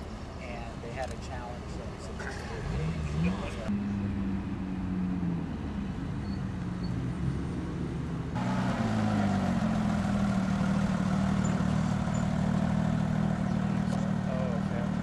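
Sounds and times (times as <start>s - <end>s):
sports car engines at low revs: 2.2s - 15.0s.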